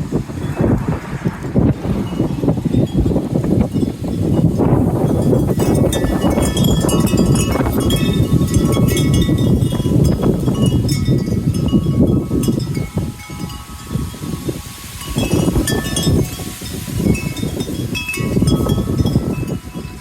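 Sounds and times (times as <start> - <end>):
wind rumble on microphone: 0.0 - 20.0
wind chimes ringing: 2.1 - 20.0.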